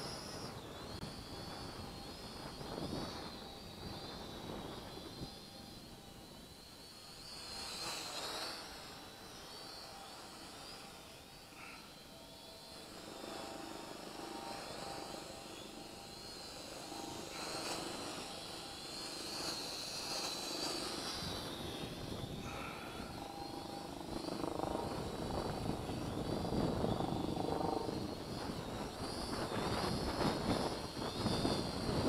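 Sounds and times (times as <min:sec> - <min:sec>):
wind rumble on microphone: 0:00.0 - 0:11.8, 0:12.6 - 0:32.0
toy drone motors whining: 0:00.0 - 0:32.0.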